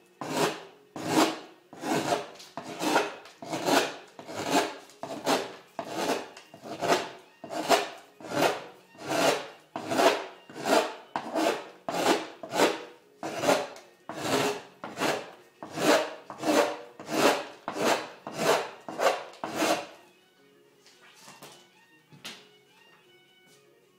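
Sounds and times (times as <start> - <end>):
gouge scraping wood: 0.2 - 20.0.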